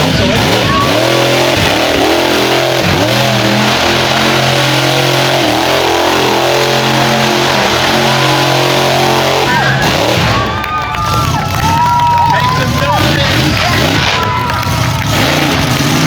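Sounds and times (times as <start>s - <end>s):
truck engine revving hard: 0.0s - 16.0s.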